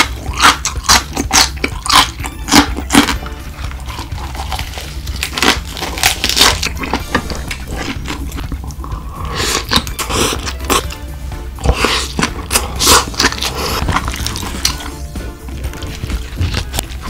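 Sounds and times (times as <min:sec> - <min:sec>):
crunching and chewing: 0:00.0 - 0:11.0, 0:11.6 - 0:17.0.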